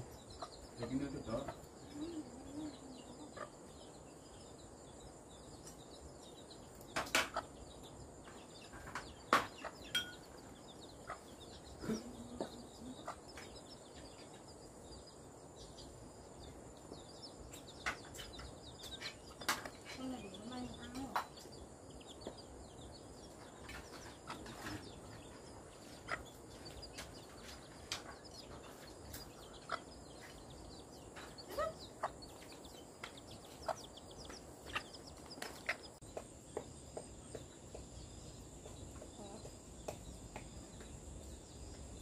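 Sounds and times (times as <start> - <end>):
bird chirps and calls: 0.0 - 42.0
high insect hum: 0.0 - 42.0.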